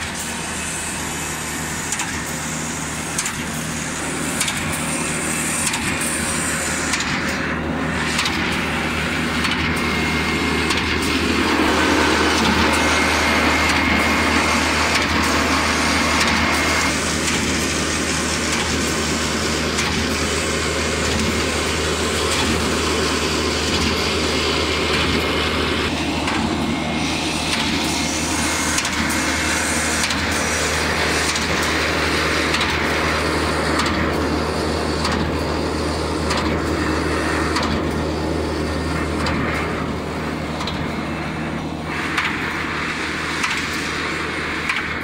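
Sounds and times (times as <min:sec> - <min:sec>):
motor hum: 0:00.0 - 0:45.0
wire rushing through rollers: 0:00.0 - 0:45.0.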